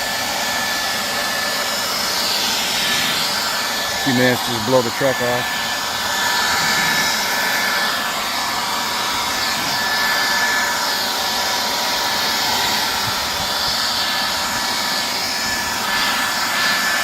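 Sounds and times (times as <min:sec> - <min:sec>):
handheld blower running: 0:00.0 - 0:17.0.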